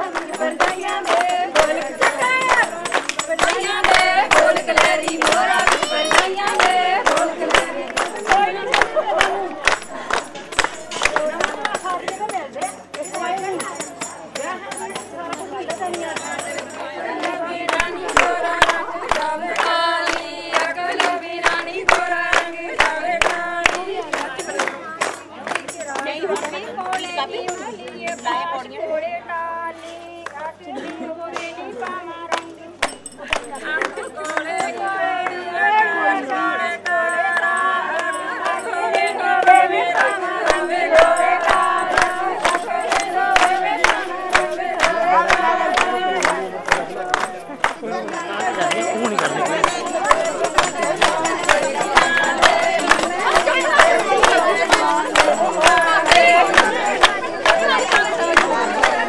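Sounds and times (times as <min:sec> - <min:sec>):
percussive beat: 0:00.0 - 0:26.0, 0:32.5 - 0:35.4, 0:36.9 - 0:59.0
hand claps keeping time: 0:00.0 - 0:28.3, 0:30.2 - 0:59.0
women singing together: 0:00.0 - 0:59.0.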